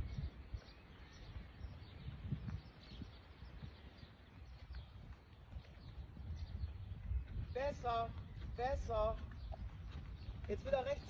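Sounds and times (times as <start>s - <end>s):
faint birds chirping: 0.0s - 11.0s
soft low thumps: 0.0s - 11.0s.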